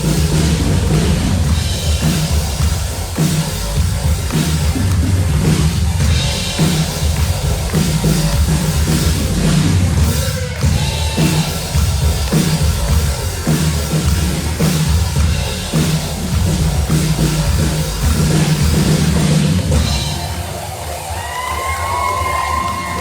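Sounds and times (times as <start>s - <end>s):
loud rock music: 0.0s - 23.0s.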